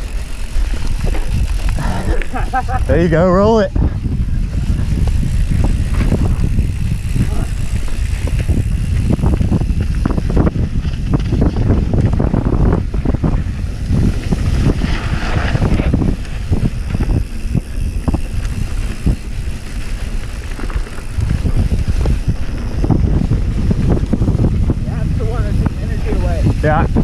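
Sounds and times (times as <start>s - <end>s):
bike knocking and rattling: 0.0s - 27.0s
wind rushing over microphone: 0.0s - 27.0s.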